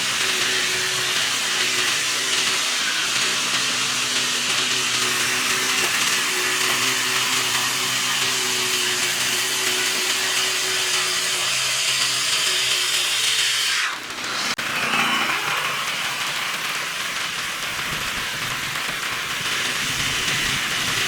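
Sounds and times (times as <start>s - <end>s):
small machine hissing: 0.0s - 21.0s.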